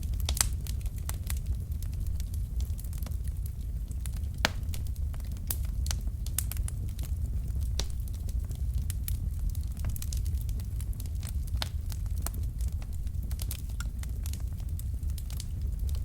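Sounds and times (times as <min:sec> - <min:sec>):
wood fire crackling in fireplace: 0:00.0 - 0:16.0.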